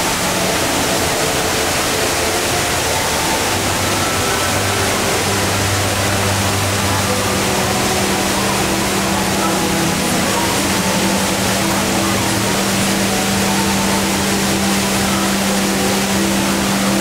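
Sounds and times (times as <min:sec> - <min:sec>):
indoor waterfall rushing: 0:00.0 - 0:17.0.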